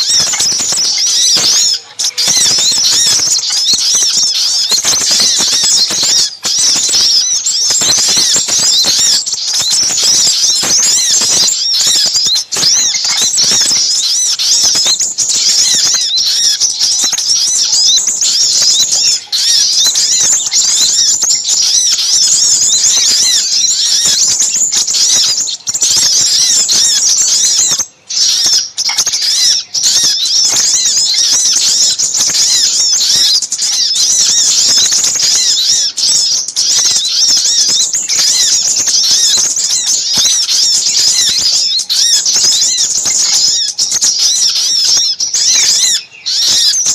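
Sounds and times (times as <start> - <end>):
small songbirds chirping: 0.0 - 46.9.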